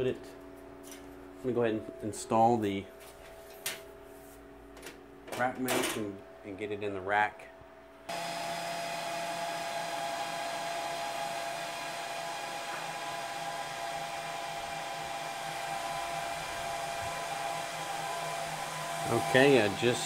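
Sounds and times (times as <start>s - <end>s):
server cooling fans whirring: 0.0s - 20.0s.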